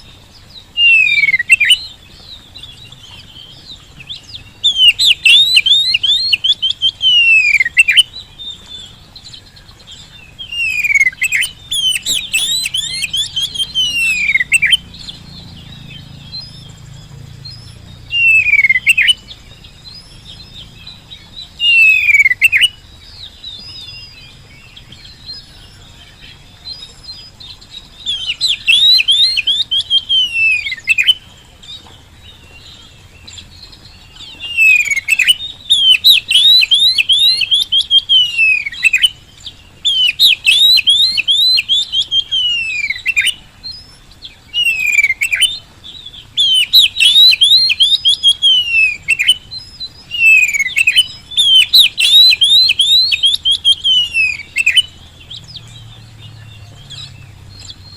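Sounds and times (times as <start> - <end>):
bird singing whistled notes: 0.0 - 57.9.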